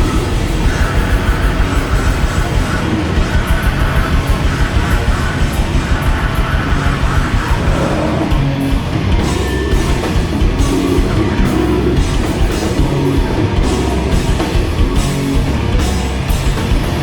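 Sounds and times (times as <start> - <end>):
bass guitar: 0.0 - 17.0
distorted guitars: 0.0 - 17.0
pounding drums: 0.0 - 17.0.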